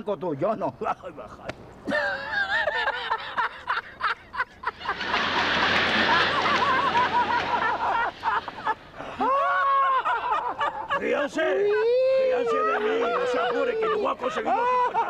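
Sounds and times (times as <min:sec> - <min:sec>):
audience laughing: 0:01.9 - 0:15.0.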